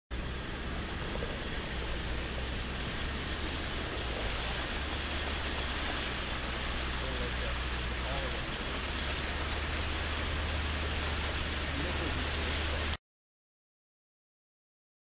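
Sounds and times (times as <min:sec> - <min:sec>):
vehicle engine rumble and hiss: 0:00.1 - 0:13.0.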